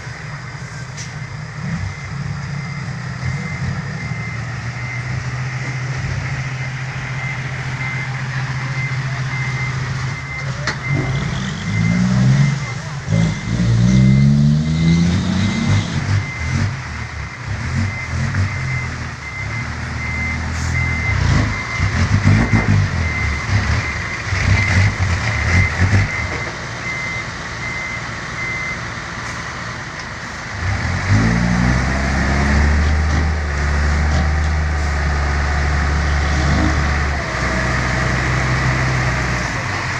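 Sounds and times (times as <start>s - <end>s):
reversing beeper: 0.0s - 33.4s
truck engine idling and revving: 0.0s - 39.9s.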